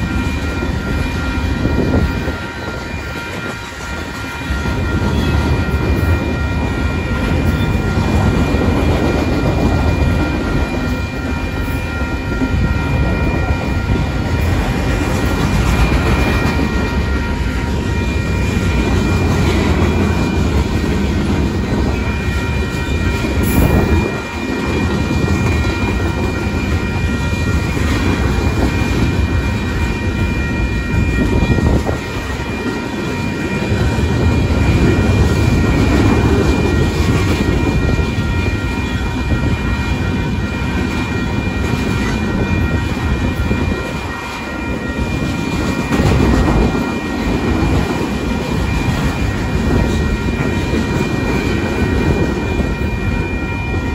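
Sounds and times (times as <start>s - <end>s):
freight train rumbling past: 0.0s - 53.9s
high ringing tone: 0.0s - 53.9s.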